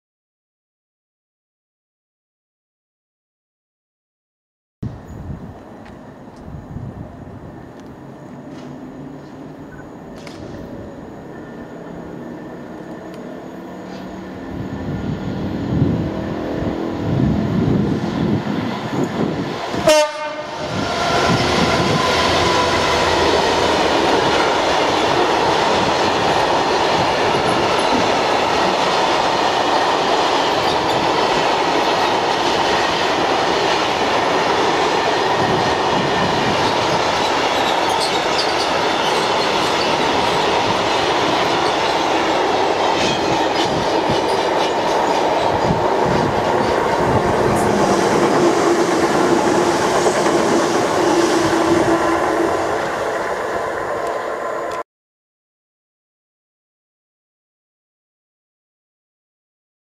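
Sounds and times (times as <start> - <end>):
diesel locomotive engine: 4.8 - 54.8
freight wagon wheels rumbling on rail: 4.8 - 54.8.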